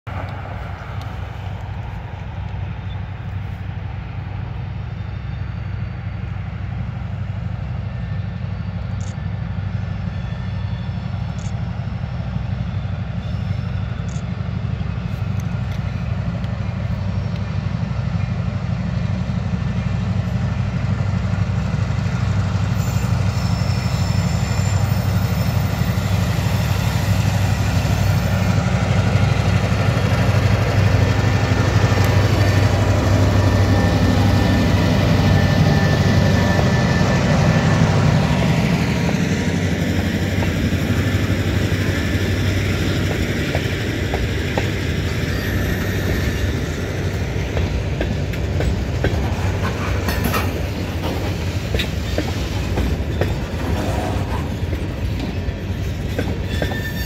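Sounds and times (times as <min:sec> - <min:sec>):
diesel locomotive engine rumble: 0:00.0 - 0:57.0
train rattling: 0:00.1 - 0:57.0.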